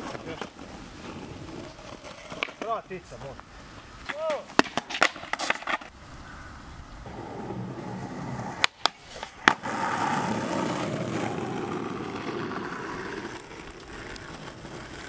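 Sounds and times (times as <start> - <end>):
skateboard clacking on ground: 0.0 - 6.0, 7.0 - 15.0
skateboard wheels rolling on concrete: 0.0 - 15.0.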